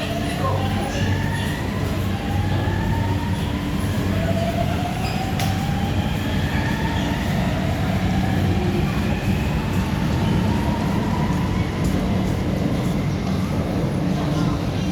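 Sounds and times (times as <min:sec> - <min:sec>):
electric train rumbling: 0:00.0 - 0:14.9.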